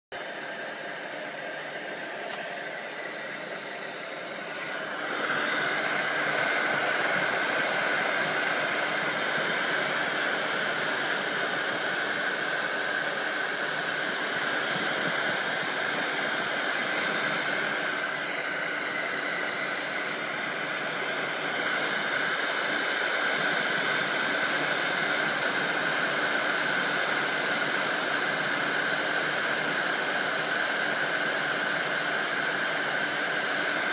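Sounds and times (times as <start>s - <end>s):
hot-air blower running: 0.1s - 33.9s.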